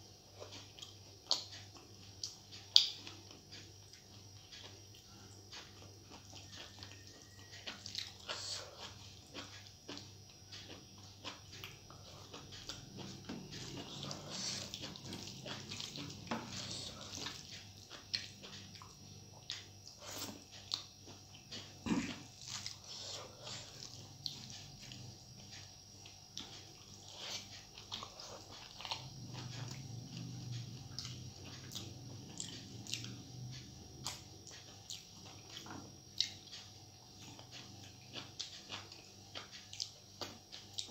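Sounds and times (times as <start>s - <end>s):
steady low hum: 0.0s - 40.9s
wet mouth clicks and chewing: 0.4s - 40.9s.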